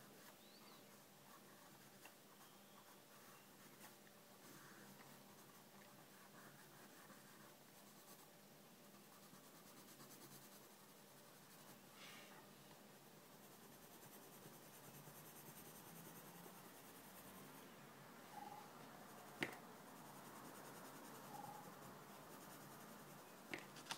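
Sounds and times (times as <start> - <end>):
pencil scratching on paper: 0.1 - 11.8, 13.2 - 17.6, 18.3 - 23.7.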